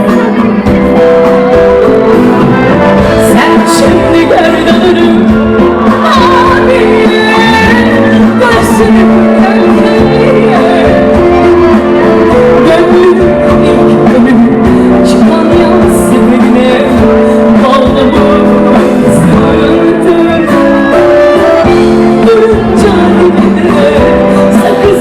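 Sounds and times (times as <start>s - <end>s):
live band playing: 0.0s - 25.0s
woman singing: 0.0s - 25.0s.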